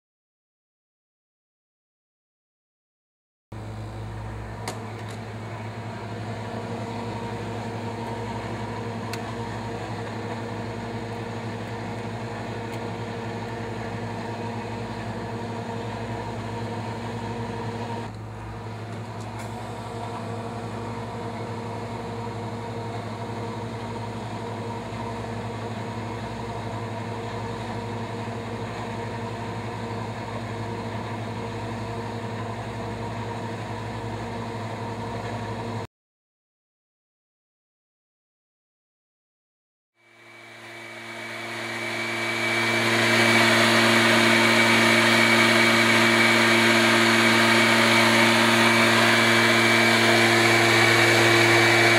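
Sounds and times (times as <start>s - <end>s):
test chamber fan humming: 3.6s - 35.9s, 40.0s - 51.9s.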